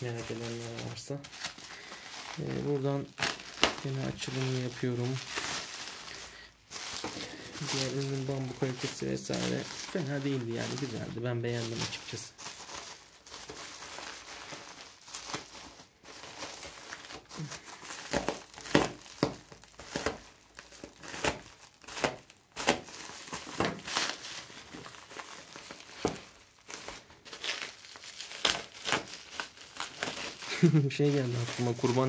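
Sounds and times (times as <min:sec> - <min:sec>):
bubble wrap crinkling: 0:00.0 - 0:32.0
bubble wrap snapping: 0:00.0 - 0:32.0.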